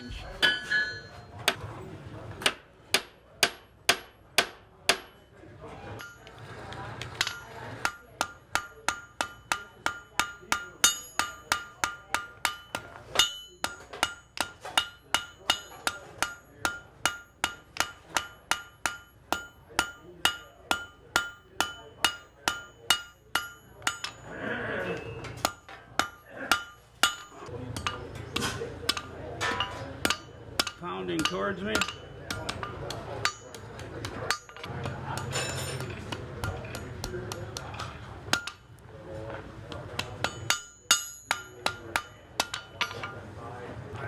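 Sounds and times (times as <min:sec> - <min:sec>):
hammer striking iron on anvil: 0:00.0 - 0:01.6, 0:02.4 - 0:05.3, 0:06.0 - 0:06.4, 0:07.2 - 0:24.4, 0:25.0 - 0:38.8, 0:39.7 - 0:43.3.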